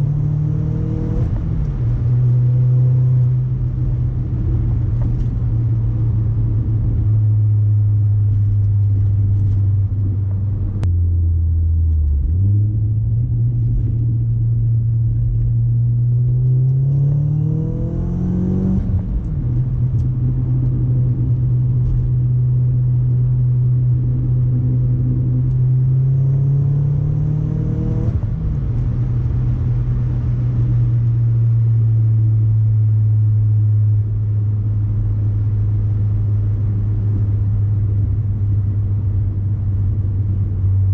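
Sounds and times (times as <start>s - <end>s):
car exhaust droning: 0.0s - 40.9s.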